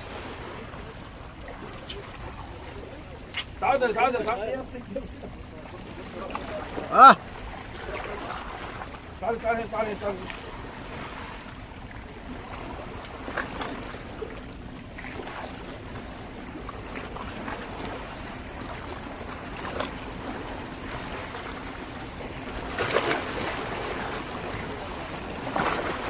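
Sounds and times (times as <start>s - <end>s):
waves splashing against rocks: 0.0s - 26.0s.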